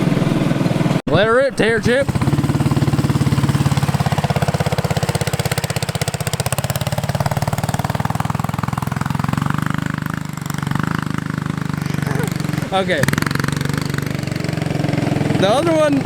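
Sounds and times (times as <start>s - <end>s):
small engine under throttle: 0.0s - 16.0s.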